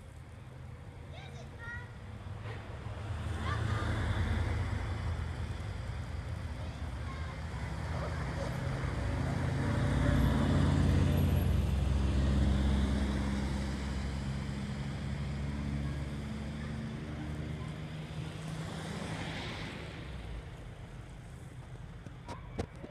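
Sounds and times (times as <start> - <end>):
buses and truck engines humming: 0.0 - 22.9.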